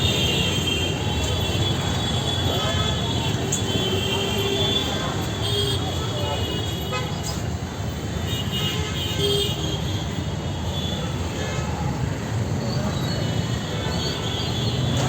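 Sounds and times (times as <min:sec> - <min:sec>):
rumble of traffic: 0:00.0 - 0:15.0.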